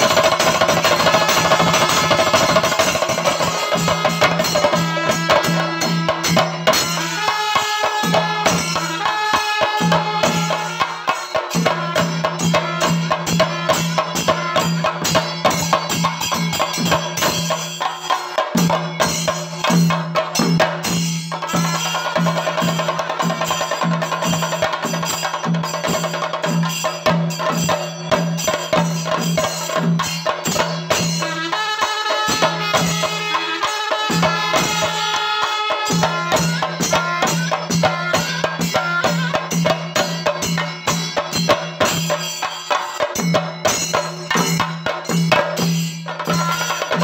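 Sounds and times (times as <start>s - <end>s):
drums beaten with sticks: 0.0s - 47.0s.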